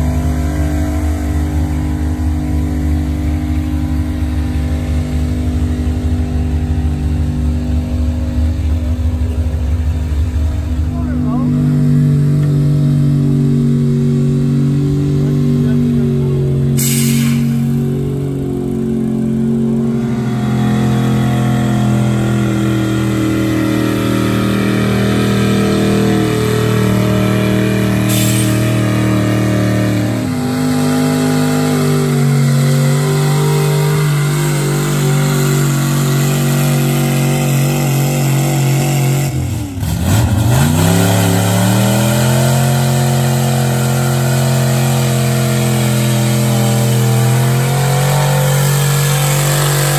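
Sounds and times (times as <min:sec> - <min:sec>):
truck engine running under load: 0:00.0 - 0:49.9.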